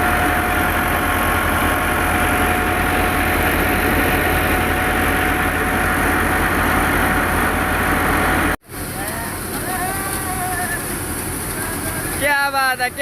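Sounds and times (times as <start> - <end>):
tractor and thresher droning: 0.0 - 13.0.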